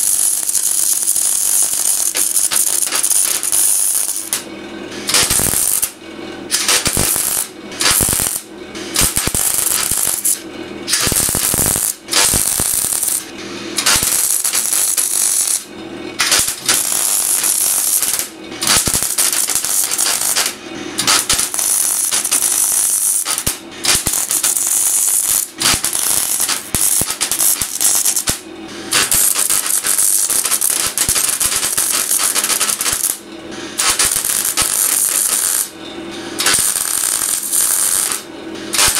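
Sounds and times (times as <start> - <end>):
welding arc crackling: 0.0 - 35.8, 36.4 - 38.9.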